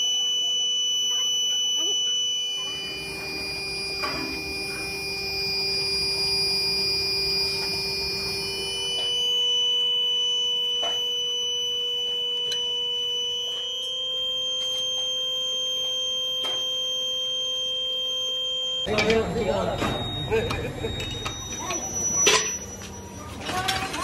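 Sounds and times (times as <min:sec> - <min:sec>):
sustained synthesizer tones: 0:00.7 - 0:23.4.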